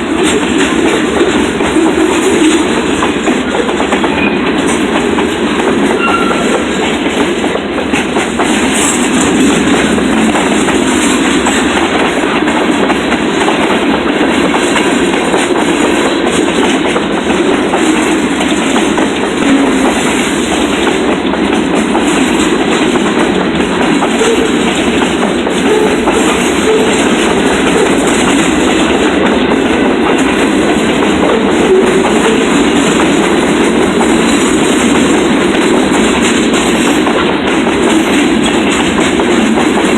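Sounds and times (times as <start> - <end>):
train wheels clicking and rumbling: 0.0 - 39.9.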